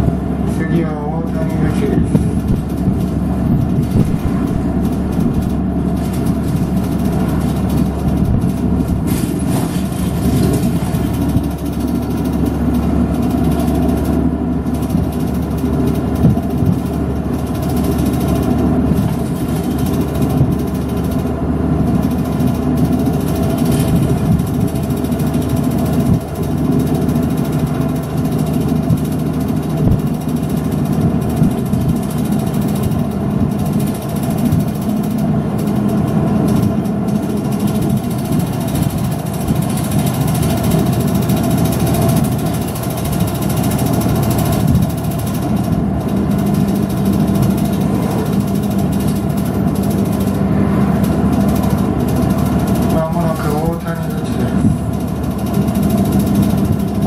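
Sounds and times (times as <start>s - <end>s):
bus engine humming: 0.0s - 57.0s.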